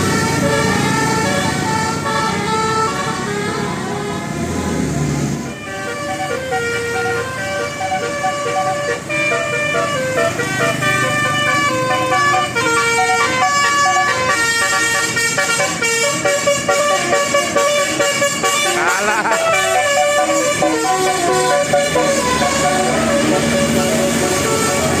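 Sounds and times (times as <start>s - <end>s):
musical air horn melody: 0.0s - 4.8s, 5.5s - 25.0s
low engine rumble: 0.0s - 25.0s.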